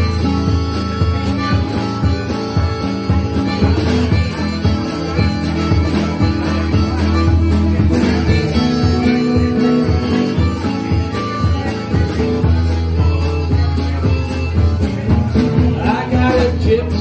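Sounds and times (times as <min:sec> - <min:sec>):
drum kit: 0:00.0 - 0:17.0
strummed acoustic guitar: 0:00.0 - 0:17.0.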